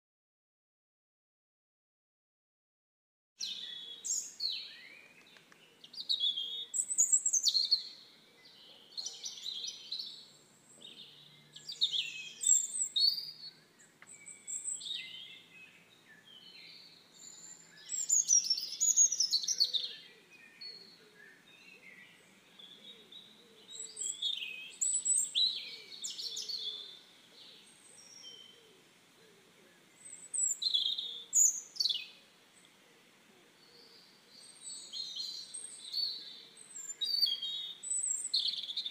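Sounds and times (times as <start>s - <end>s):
birds chirping and singing: 3.4s - 38.9s
faint steady hiss: 3.4s - 38.9s.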